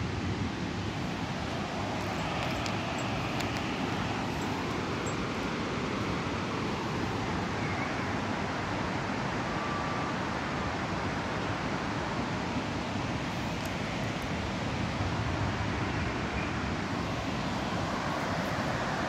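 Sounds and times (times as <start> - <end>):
outdoor rushing hiss and rumble: 0.0 - 19.0.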